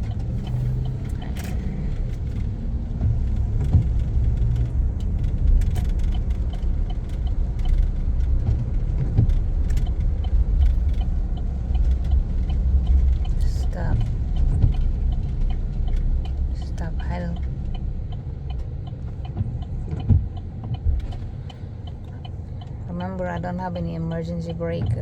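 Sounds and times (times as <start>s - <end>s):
engine and road rumble: 0.0s - 25.0s
faint regular ticking: 0.0s - 25.0s.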